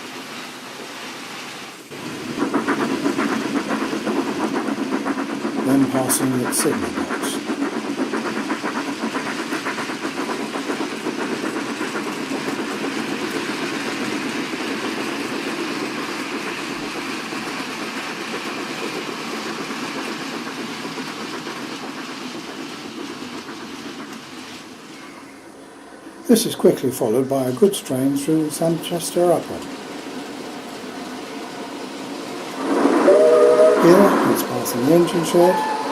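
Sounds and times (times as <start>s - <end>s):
model steam locomotive chuffing: 0.0s - 35.9s
wheels rumbling on track: 0.2s - 35.9s.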